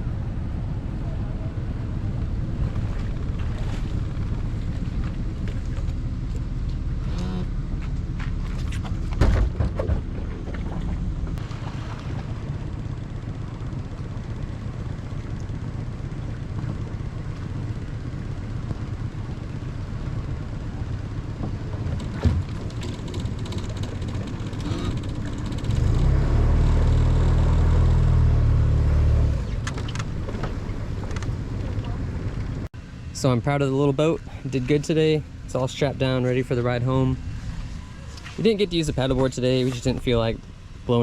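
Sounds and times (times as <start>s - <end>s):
motor rumbling: 0.0s - 41.0s.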